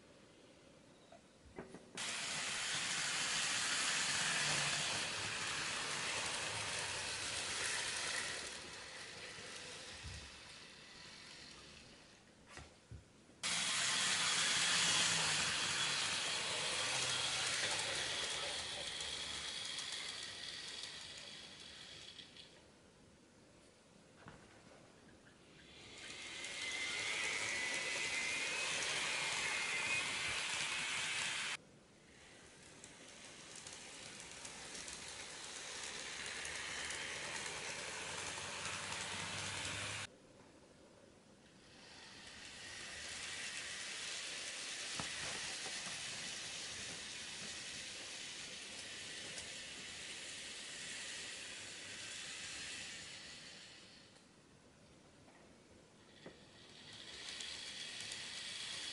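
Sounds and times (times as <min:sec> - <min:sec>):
model train wheel and motor hiss: 0:01.8 - 0:12.8, 0:13.4 - 0:22.7, 0:25.3 - 0:40.1, 0:41.4 - 0:58.9.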